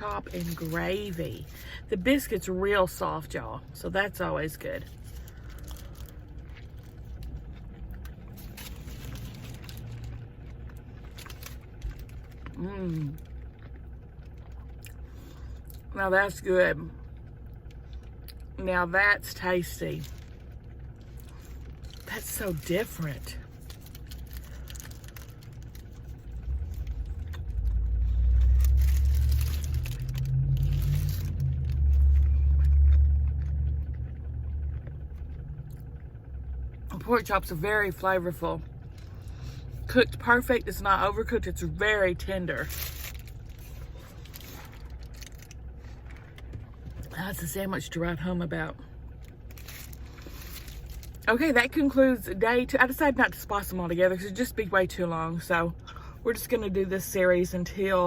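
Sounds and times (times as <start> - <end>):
low background rumble: 0.0 - 58.0.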